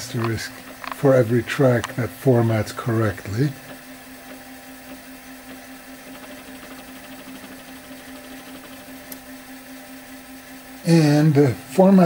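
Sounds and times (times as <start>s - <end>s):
floppy drive spindle hum: 0.0s - 12.0s.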